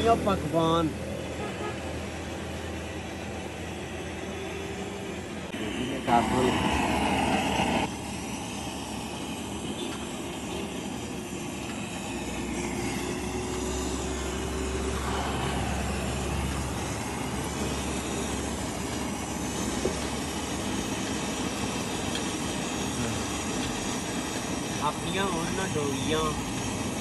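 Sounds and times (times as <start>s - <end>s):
traffic noise: 0.0s - 27.0s
vehicle engine rumble: 0.0s - 27.0s.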